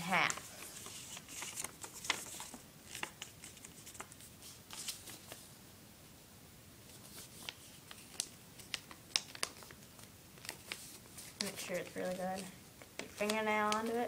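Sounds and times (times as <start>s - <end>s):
paper rustling and crackling: 0.0s - 5.5s, 6.9s - 14.0s.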